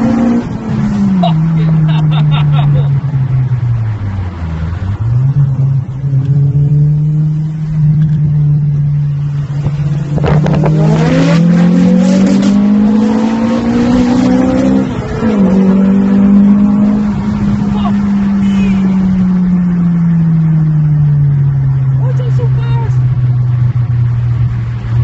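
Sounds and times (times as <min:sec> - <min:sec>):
car engine revving on limiter: 0:00.0 - 0:02.9, 0:04.2 - 0:21.8.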